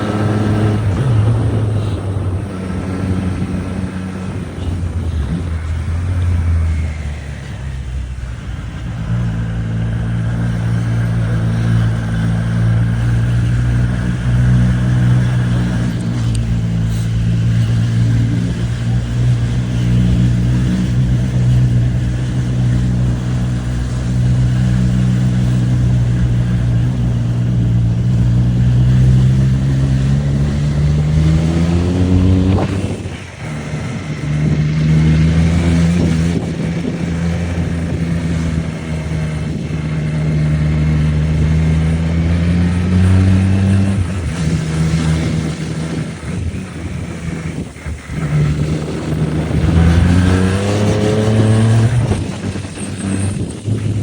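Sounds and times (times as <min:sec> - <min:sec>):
motorcycle engine under load: 0:00.0 - 0:54.0.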